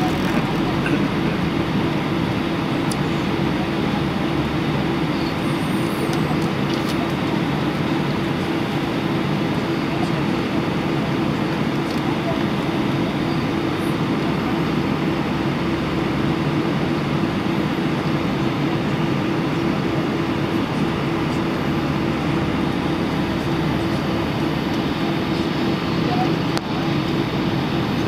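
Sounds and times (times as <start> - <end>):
aircraft engine hum: 0.0 - 28.0.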